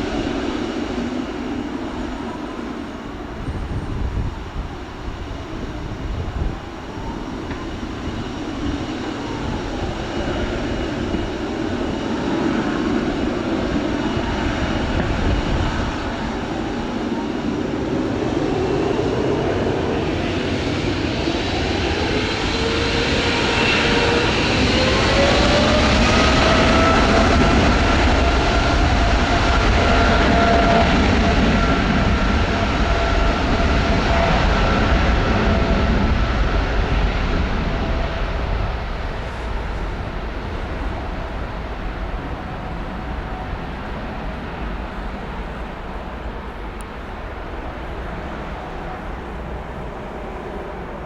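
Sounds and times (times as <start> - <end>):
jet engines spooling up: 0.0 - 51.0.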